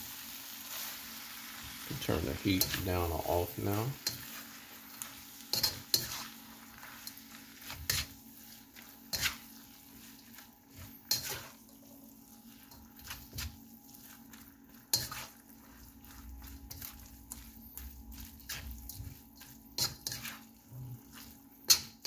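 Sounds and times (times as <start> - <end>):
spatula scraping a wok: 0.4 - 22.0.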